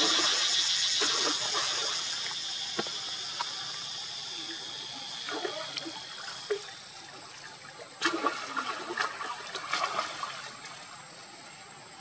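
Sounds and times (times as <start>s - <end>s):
water splashing and sloshing: 0.0s - 11.3s.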